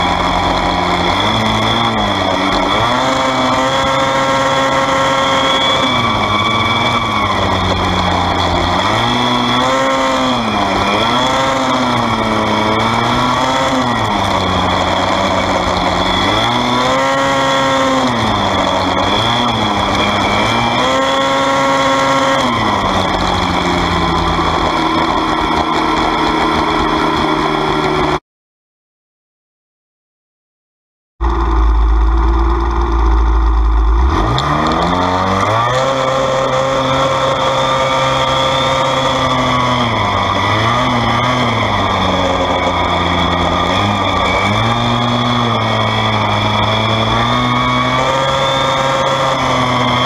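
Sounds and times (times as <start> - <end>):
race car engine: 0.0 - 28.2, 31.2 - 50.0.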